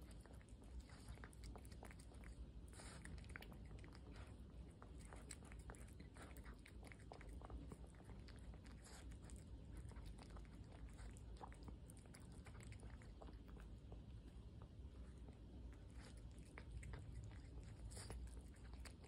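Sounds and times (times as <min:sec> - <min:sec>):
cat chewing and licking food: 0:00.0 - 0:19.0.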